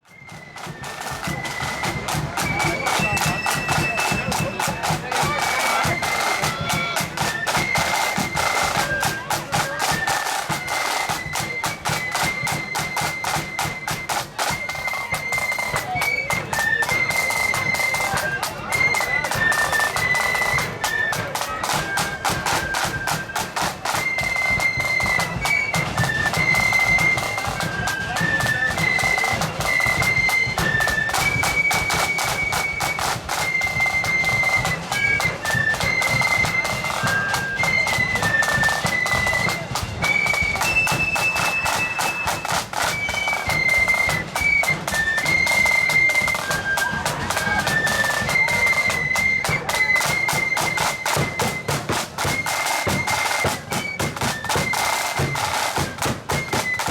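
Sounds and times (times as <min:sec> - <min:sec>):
flutes playing a tune: 0:00.0 - 0:56.9
snare and bass drum beat: 0:00.0 - 0:56.9.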